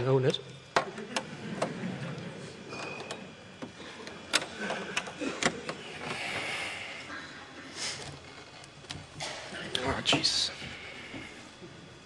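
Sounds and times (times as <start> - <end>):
murmur in a large hall: 0.0 - 12.0.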